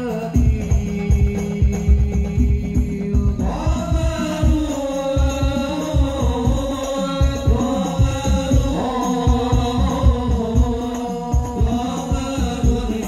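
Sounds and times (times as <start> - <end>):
low frame drum beats: 0.0 - 13.0
man singing: 0.0 - 13.0
men singing a devotional chant: 0.0 - 13.0.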